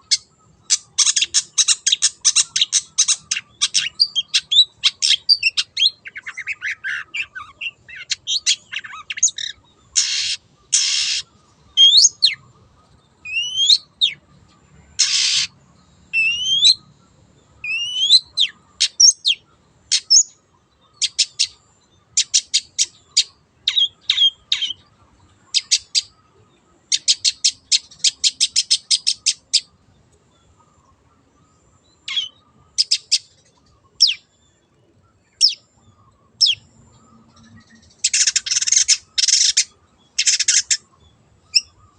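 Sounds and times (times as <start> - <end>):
bird singing chirps and whistles: 0.0 - 12.4, 13.1 - 14.3, 14.9 - 17.0, 17.6 - 24.9, 26.9 - 29.8, 31.9 - 34.3, 35.2 - 41.9
harsh rasping bird calls: 0.0 - 26.3, 26.9 - 29.8, 30.4 - 34.3, 35.4 - 41.9.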